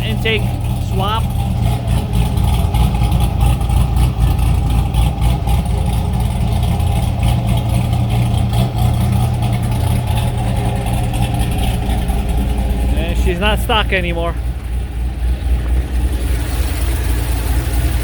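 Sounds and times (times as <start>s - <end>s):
car engine idling choppily: 0.0s - 18.0s.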